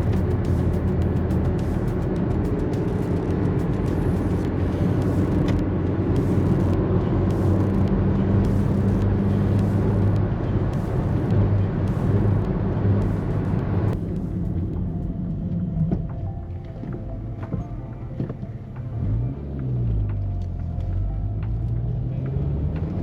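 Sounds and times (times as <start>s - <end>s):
car engine running: 0.0s - 23.0s
road and tyre noise: 0.0s - 23.0s.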